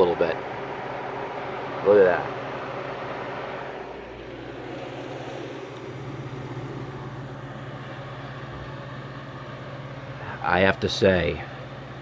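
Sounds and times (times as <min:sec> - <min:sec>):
dehumidifier compressor hum: 0:00.0 - 0:12.0
fan rushing: 0:00.0 - 0:12.0.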